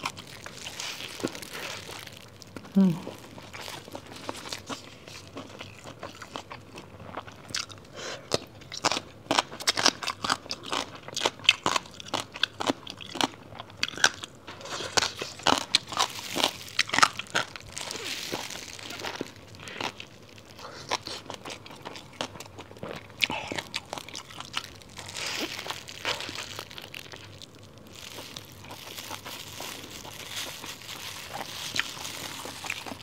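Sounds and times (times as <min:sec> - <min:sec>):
crunchy eating and chewing: 0:00.0 - 0:33.0.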